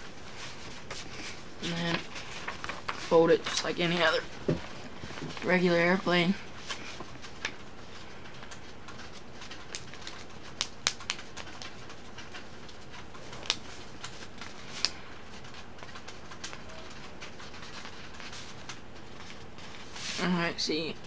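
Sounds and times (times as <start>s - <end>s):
paper being folded: 0.1s - 21.0s.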